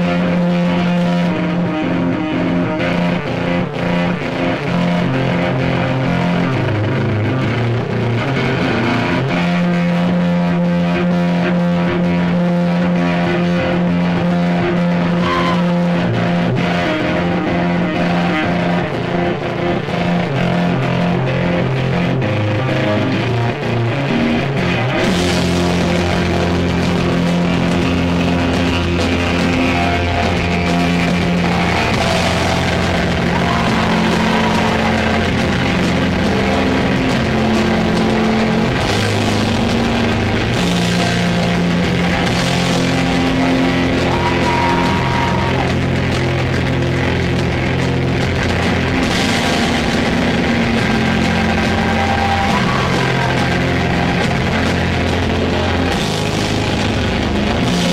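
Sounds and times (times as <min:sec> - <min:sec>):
distorted electric guitar riffing: 0:00.0 - 0:57.9
heavy metal band playing: 0:00.0 - 0:57.9.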